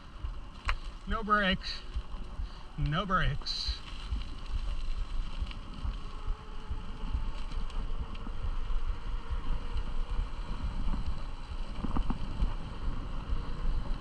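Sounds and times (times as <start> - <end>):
rushing rumble of motion: 0.0 - 14.0
wind buffeting microphone: 0.0 - 14.0.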